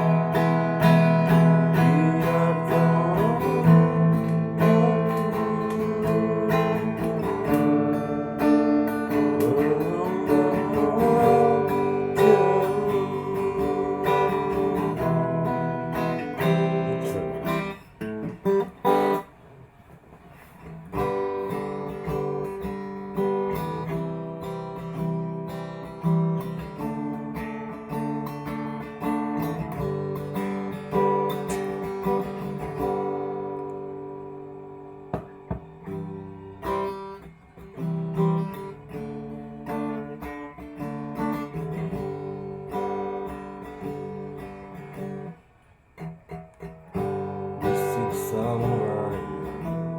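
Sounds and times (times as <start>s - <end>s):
acoustic guitar strumming chords: 0.0s - 49.9s.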